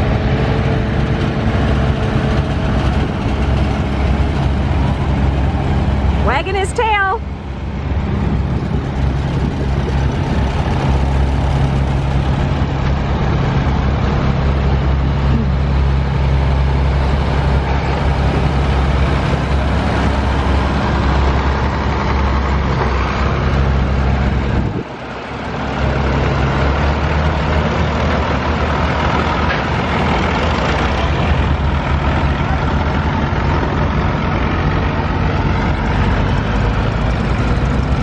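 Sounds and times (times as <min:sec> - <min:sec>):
tractor engines humming: 0:00.0 - 0:38.0.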